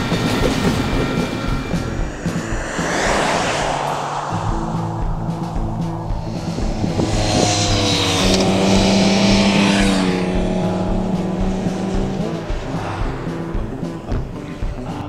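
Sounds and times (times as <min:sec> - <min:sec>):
vehicle driving past: 0:00.4 - 0:14.9.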